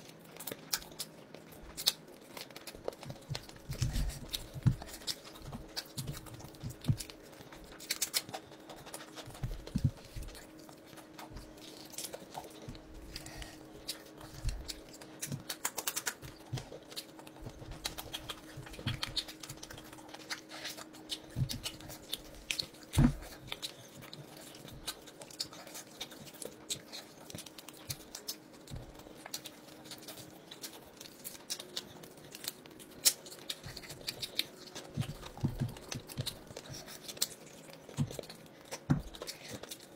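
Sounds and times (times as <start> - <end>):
chewing and mouth smacking: 0.0 - 39.9
crackly tearing of chicken: 0.0 - 39.9
faint steady hum: 0.0 - 39.9.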